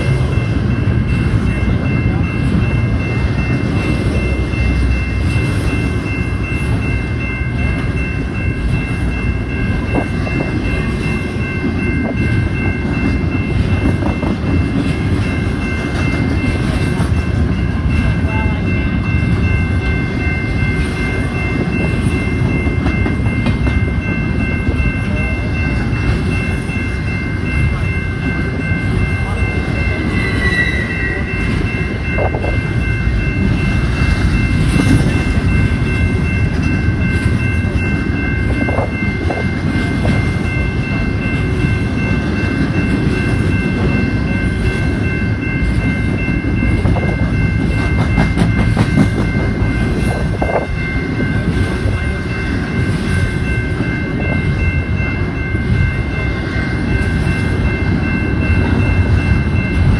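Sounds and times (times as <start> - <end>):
crossing bell ringing: 0.0 - 59.9
freight train wheels rumbling on rail: 0.0 - 59.9.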